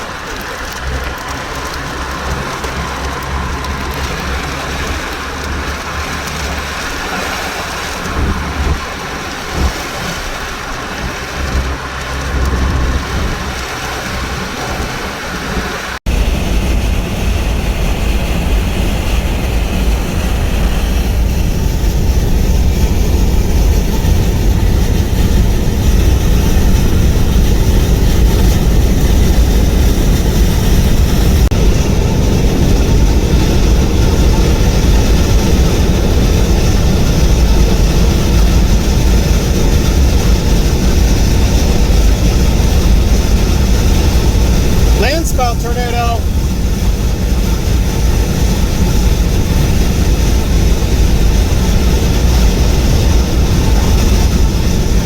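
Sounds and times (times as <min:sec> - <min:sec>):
low rumble: 0:00.0 - 0:55.0
rain: 0:00.0 - 0:55.0
wind: 0:00.0 - 0:55.0.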